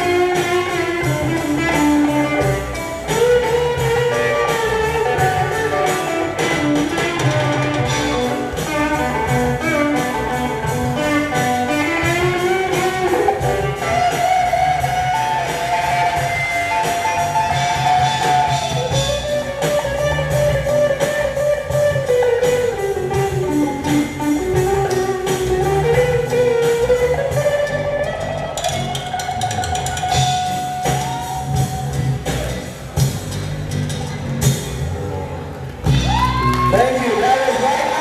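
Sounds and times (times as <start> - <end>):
electric guitar sliding notes: 0.0 - 38.0
rock band playing: 0.0 - 38.0.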